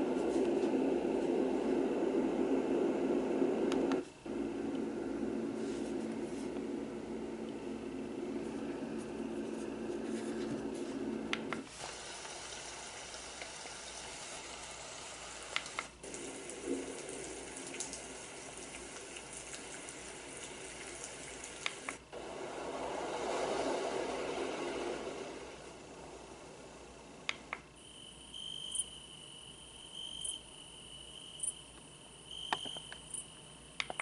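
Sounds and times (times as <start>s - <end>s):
white noise machine hiss: 0.0s - 34.0s.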